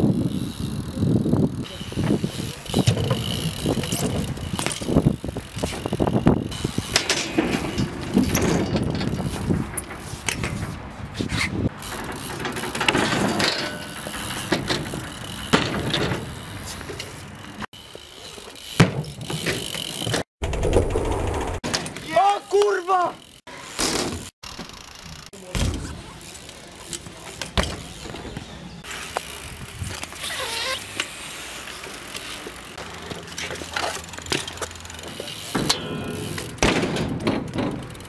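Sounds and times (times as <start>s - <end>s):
tyres rolling on concrete: 0.0s - 20.3s, 25.4s - 38.0s
bike landings clattering: 0.0s - 38.0s.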